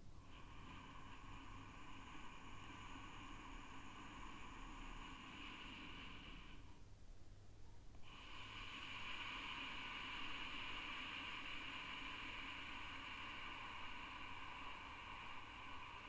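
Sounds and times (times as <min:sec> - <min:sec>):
hissing throat breathing: 0:00.0 - 0:06.8, 0:08.0 - 0:16.0.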